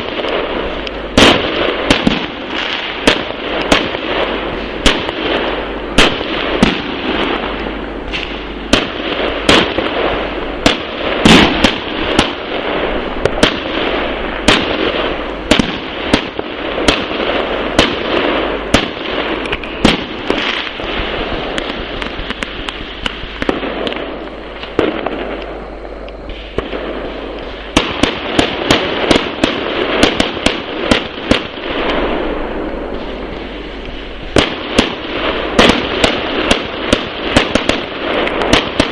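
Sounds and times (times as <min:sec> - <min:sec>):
crackling rumble of launches: 0:00.0 - 0:38.9
firework bangs and cracks: 0:00.0 - 0:38.9.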